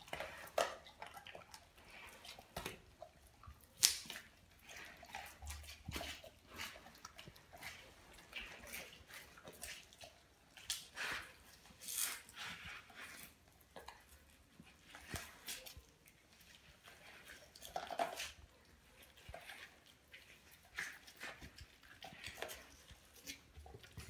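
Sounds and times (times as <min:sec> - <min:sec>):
dog chewing and crunching: 0:00.0 - 0:24.0.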